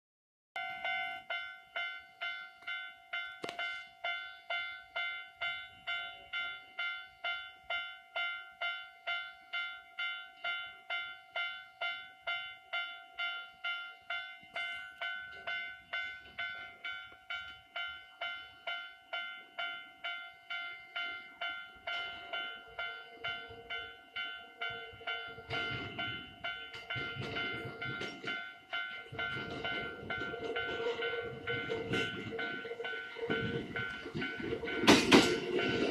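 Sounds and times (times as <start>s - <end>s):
level-crossing alarm dinging: 0.6s - 35.9s
train rumbling: 1.6s - 35.9s.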